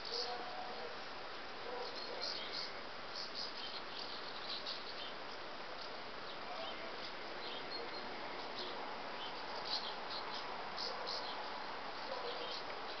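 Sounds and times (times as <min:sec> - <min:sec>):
small birds chirping: 0:00.0 - 0:01.0, 0:01.6 - 0:13.0
steady background hiss: 0:00.0 - 0:13.0.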